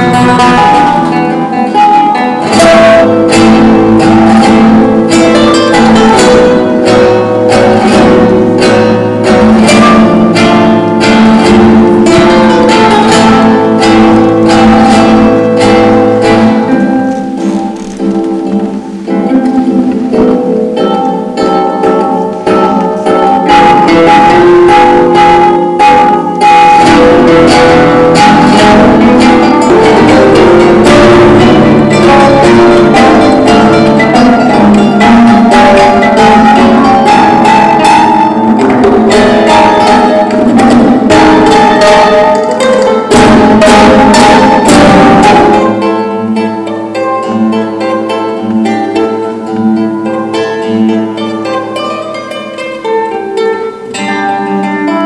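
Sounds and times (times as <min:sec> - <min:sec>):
nylon-string guitars playing: 0:00.0 - 0:55.0.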